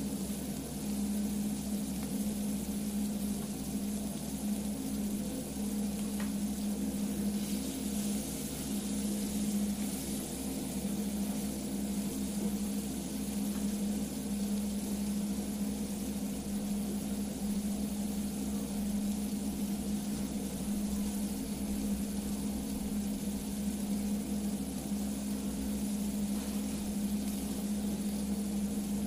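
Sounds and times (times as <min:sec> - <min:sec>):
low hum: 0:00.0 - 0:29.0
meat sizzling on hot stone: 0:00.0 - 0:29.0.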